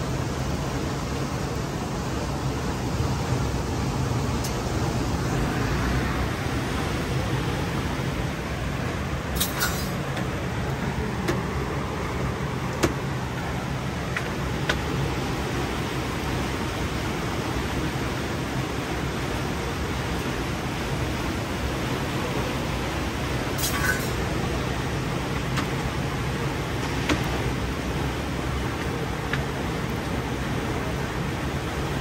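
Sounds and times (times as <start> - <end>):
rushing background noise: 0.0 - 32.0.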